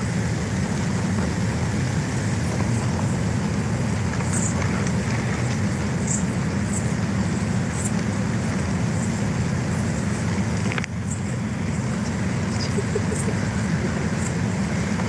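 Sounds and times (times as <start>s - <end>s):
low rumbling outdoor noise: 0.0s - 15.0s.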